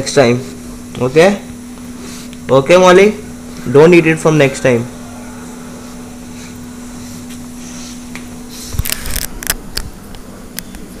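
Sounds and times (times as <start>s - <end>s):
steady hum with held tone: 0.0s - 11.0s.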